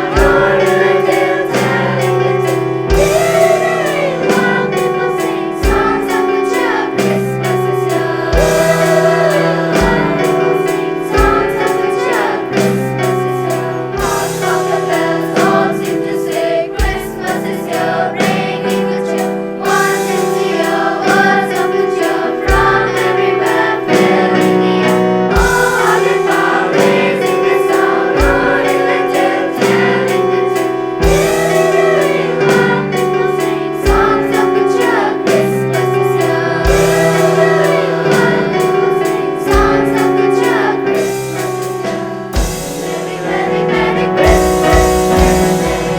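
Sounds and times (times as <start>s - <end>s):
choir singing a carol: 0.0s - 45.9s
instrumental accompaniment: 0.0s - 45.9s.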